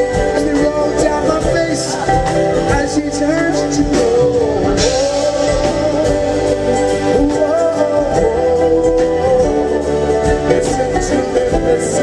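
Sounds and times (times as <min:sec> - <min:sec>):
sliding melody line: 0:00.0 - 0:12.0.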